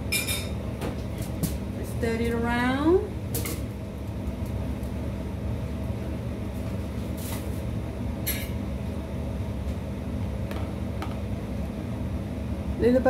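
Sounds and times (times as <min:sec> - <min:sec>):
gas burner rumble: 0:00.0 - 0:13.0.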